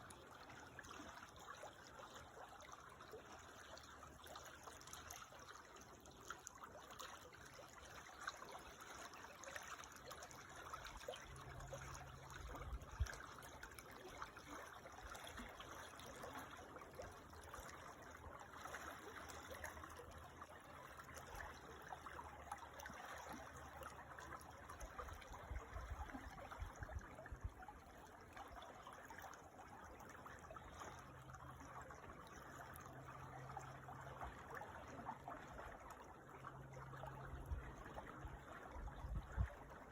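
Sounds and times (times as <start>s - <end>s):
creek trickling and babbling: 0.0s - 39.9s.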